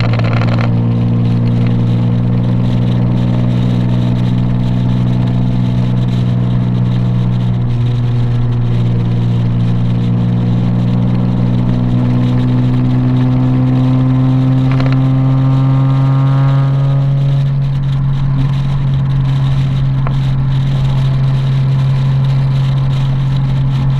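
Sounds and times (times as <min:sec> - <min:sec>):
car engine droning: 0:00.0 - 0:23.9.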